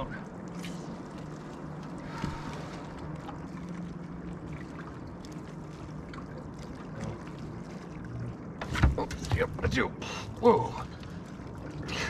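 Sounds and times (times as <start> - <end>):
steady low hum: 0.0 - 12.0
water lapping around a boat: 0.0 - 12.0.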